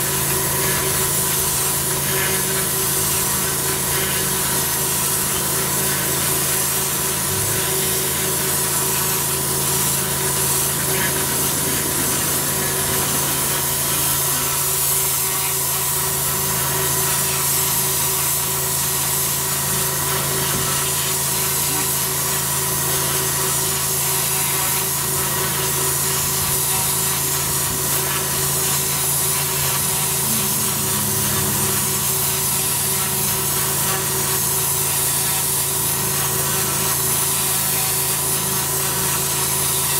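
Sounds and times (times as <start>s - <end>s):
machine hum: 0.0s - 36.3s
pressure washer spraying paving: 0.0s - 39.9s.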